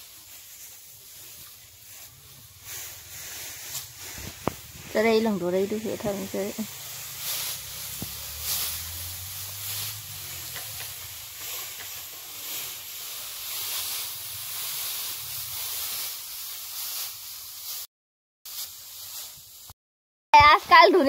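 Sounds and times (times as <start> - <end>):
dry straw rustling and swishing: 0.0 - 17.9, 18.5 - 19.8.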